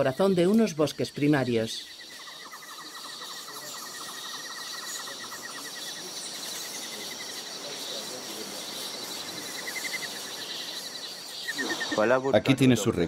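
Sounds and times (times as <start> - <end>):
insect chorus shrilling: 0.0 - 12.3.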